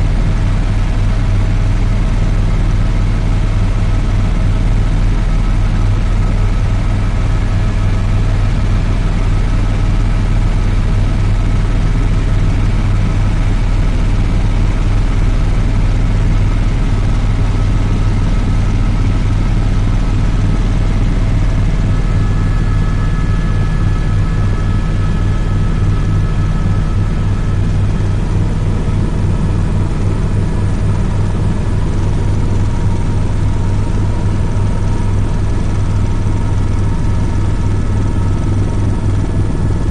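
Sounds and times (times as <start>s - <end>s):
faint steady whines: 0.0s - 39.9s
helicopter engine and rotor drone: 0.0s - 39.9s.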